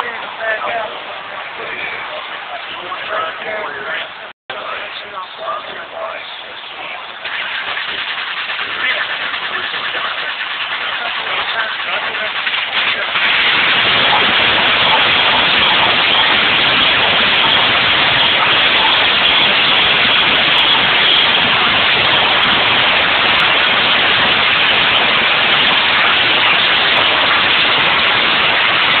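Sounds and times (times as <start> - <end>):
dragster engine roaring: 0.0 - 29.0.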